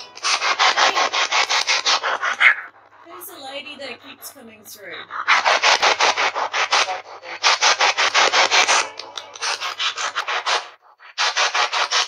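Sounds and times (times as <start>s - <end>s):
choppy bursts of static: 0.0s - 12.0s.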